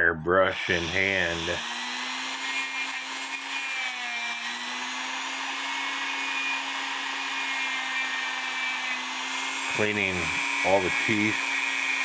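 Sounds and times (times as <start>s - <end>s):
motorized wire brush spinning: 0.6s - 12.0s.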